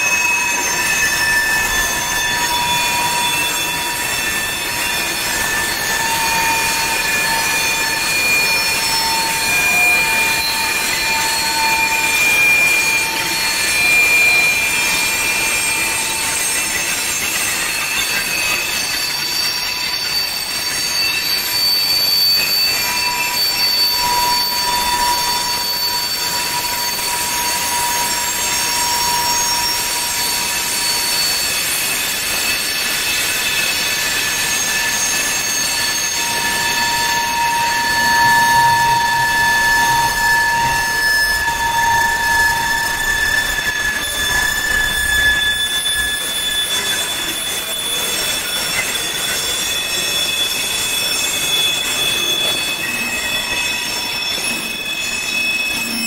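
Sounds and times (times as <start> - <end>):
train wheels on rails: 0.0 - 56.0
wheel flanges squealing: 0.0 - 56.0.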